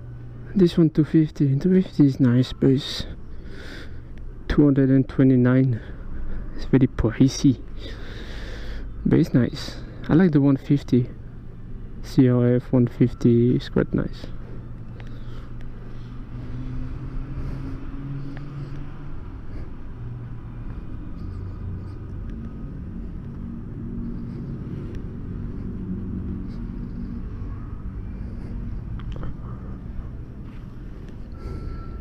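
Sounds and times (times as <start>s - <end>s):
vehicle engines running: 0.0s - 32.0s.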